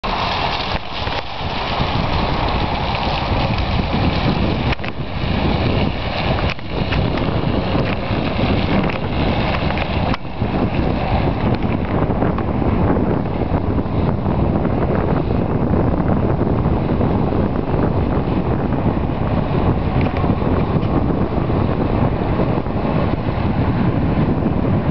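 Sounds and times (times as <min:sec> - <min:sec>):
off-road vehicle engine running: 0:00.0 - 0:24.9
wind buffeting microphone: 0:00.0 - 0:24.9.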